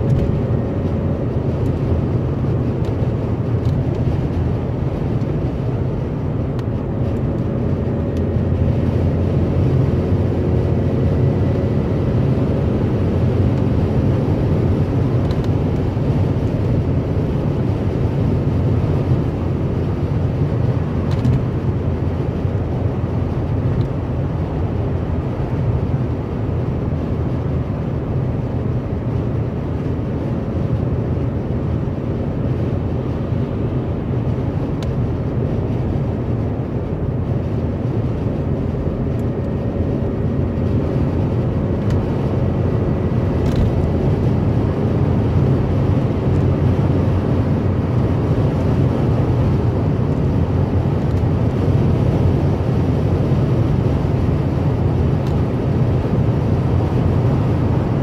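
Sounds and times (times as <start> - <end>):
car cabin road and engine rumble: 0.0 - 58.0.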